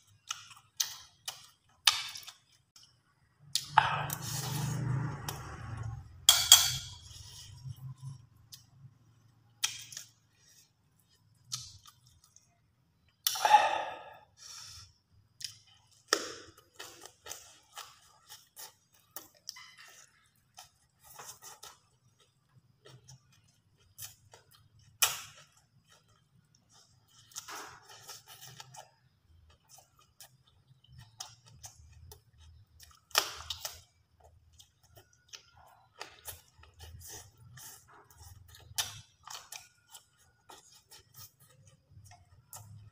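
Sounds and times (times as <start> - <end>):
person chewing and crunching: 0.0 - 6.1, 6.8 - 42.9.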